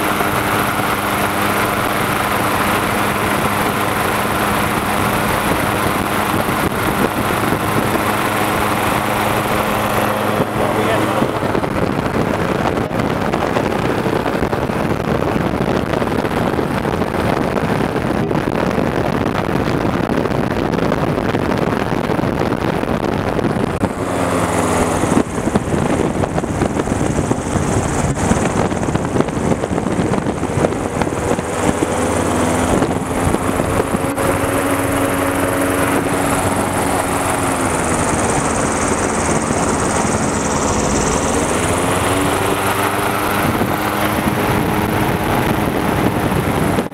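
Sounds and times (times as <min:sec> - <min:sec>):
aircraft engine and propeller: 0:00.0 - 0:46.9.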